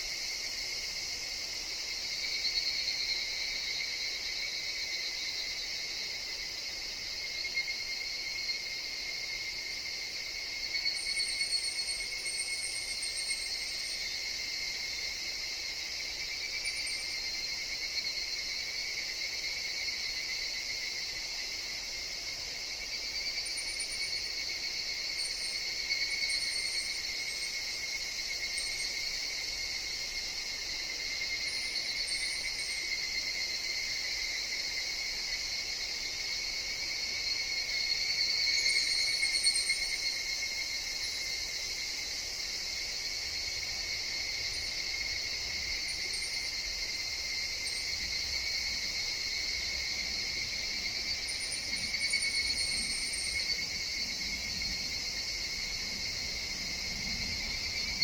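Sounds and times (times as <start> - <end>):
cicadas droning: 0.0 - 58.0
very high insect chirps: 0.0 - 58.0.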